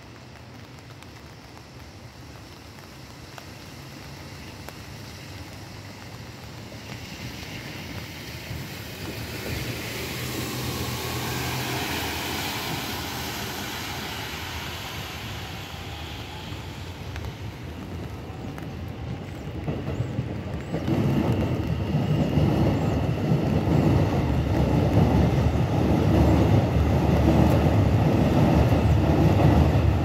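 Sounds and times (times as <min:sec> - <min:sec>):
electric train running: 0:03.6 - 0:30.0.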